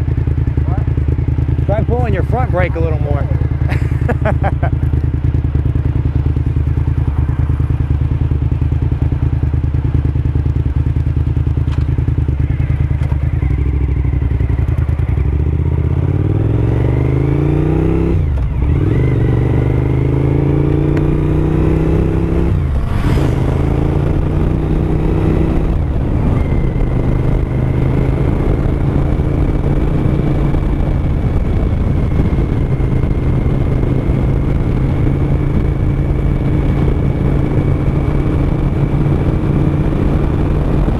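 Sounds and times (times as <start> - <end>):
gear changes: 0.0 - 40.9
motorcycle engine accelerating: 0.0 - 40.9.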